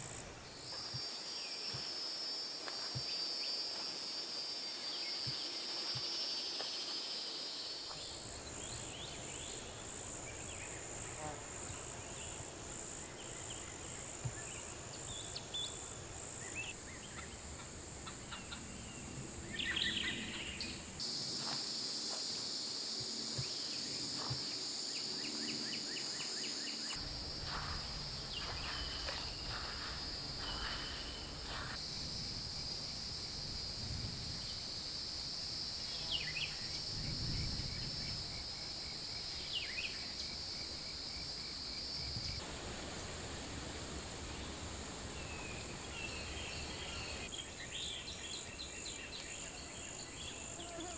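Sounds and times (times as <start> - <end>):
insects droning: 0.0 - 50.9
pulsing insect call: 0.0 - 50.9.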